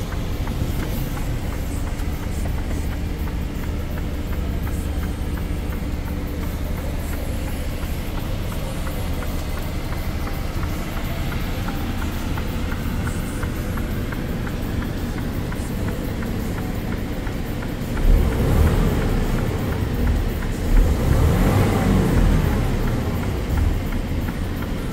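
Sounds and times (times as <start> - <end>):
diesel truck engine idling and revving: 0.0 - 24.9.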